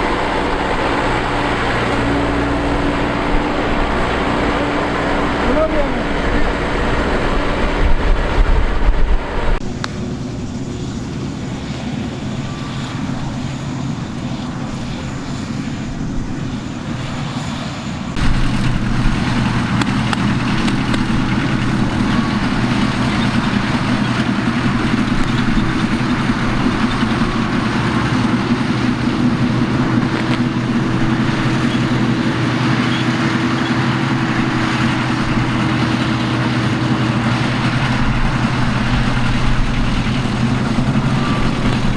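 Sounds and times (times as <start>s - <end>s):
combine harvester engine drone: 0.0s - 41.9s.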